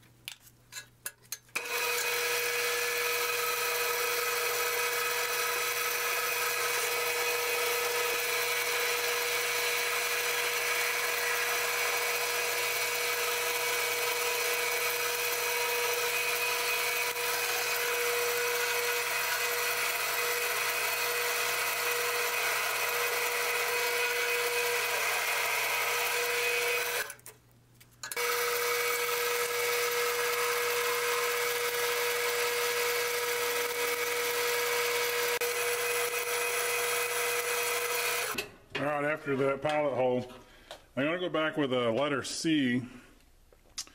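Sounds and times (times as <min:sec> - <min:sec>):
drill bit boring into steel: 0:01.6 - 0:27.2, 0:28.1 - 0:38.4
metal lathe whining: 0:01.6 - 0:27.2, 0:28.1 - 0:38.5.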